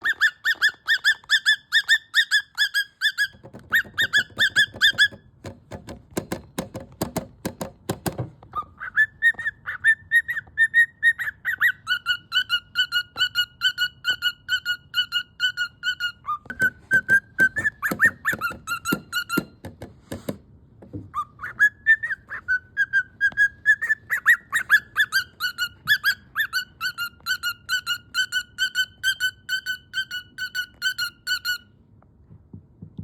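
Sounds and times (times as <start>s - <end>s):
cockatiel whistled chirps: 0.0s - 5.2s, 8.5s - 19.5s, 21.1s - 31.7s.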